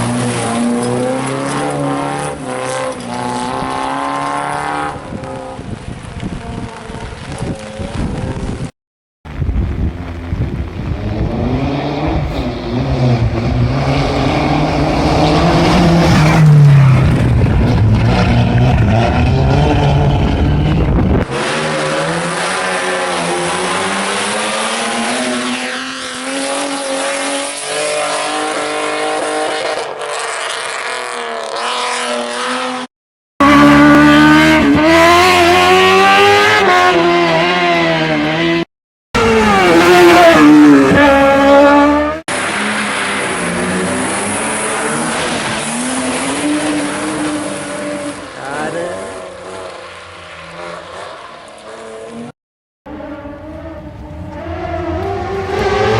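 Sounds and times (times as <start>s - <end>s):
rally car engines revving: 0.0s - 8.7s, 9.6s - 55.9s.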